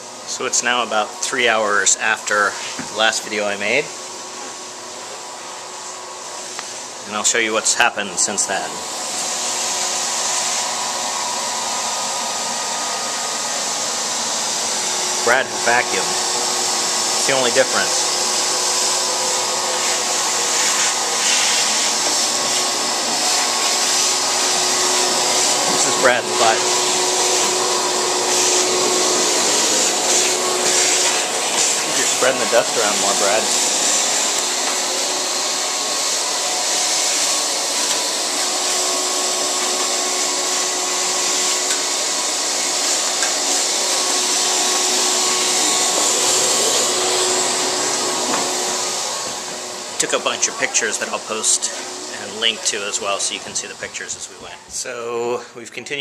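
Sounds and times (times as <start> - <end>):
vacuum cleaner running: 0.0 - 55.5.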